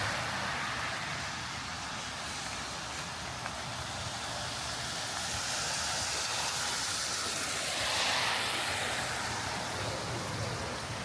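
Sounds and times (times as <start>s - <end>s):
heavy rain on wet streets: 0.0s - 11.0s
tyres passing on wet road: 0.0s - 11.0s.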